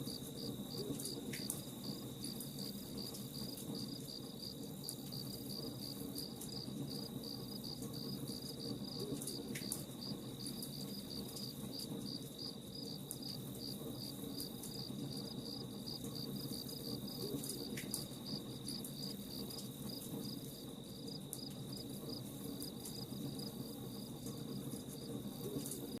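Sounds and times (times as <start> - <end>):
crickets chirping: 0.0 - 26.0
high insect trill: 0.0 - 26.0.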